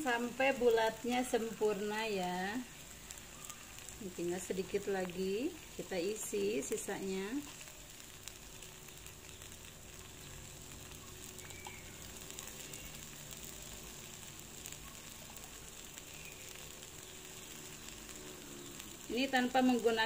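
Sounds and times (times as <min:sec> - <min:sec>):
batter sizzling in oil: 0:00.0 - 0:20.0.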